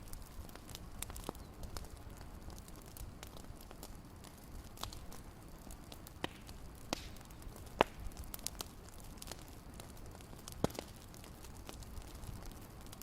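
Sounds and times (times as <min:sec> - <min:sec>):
faint steady hiss: 0:00.0 - 0:13.0
fireplace crackling: 0:00.0 - 0:13.0.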